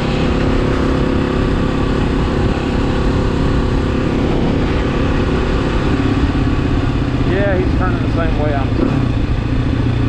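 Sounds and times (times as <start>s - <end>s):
dirt bike engine running: 0.0s - 10.0s
wind rumble on microphone: 0.0s - 10.0s.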